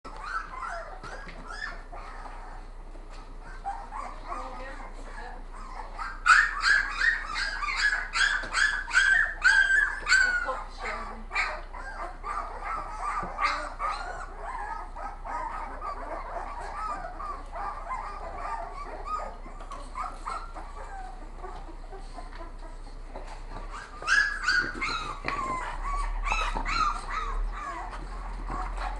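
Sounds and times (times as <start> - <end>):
dog yapping: 0.1 - 2.3, 5.6 - 10.6, 11.3 - 22.5, 23.7 - 28.9
puppies whimpering and squealing: 0.1 - 28.9.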